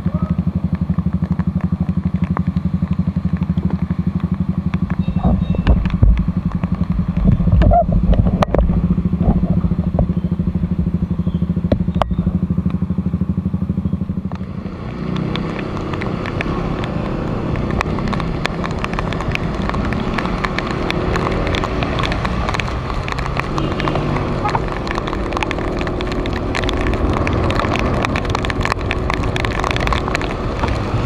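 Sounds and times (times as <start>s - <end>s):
rush of riding on wet road: 0.0s - 31.0s
scooter engine running: 0.0s - 31.0s
raindrops ticking on camera: 0.4s - 31.0s.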